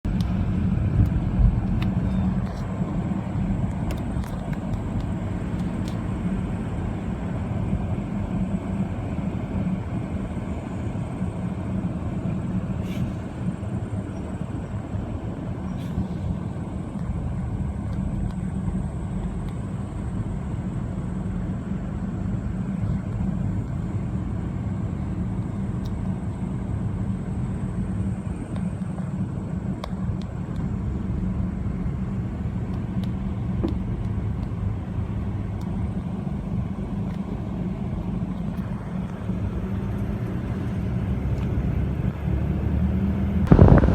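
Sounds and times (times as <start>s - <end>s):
vehicle rumble on road: 0.0s - 43.9s.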